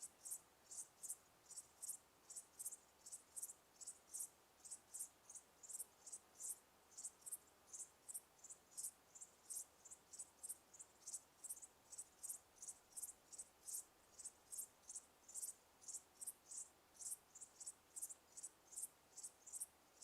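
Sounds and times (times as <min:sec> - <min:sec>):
faint background hiss: 0:00.0 - 0:20.0
insects chirping: 0:00.0 - 0:20.0.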